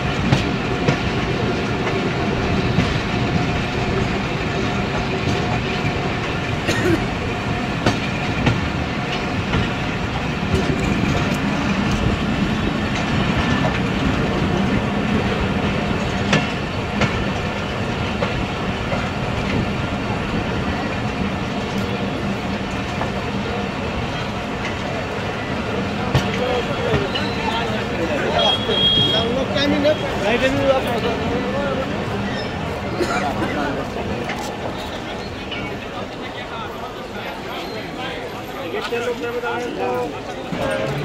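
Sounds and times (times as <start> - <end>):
wheels clacking over rails: 0.0 - 36.4
train rumbling along track: 0.0 - 41.0.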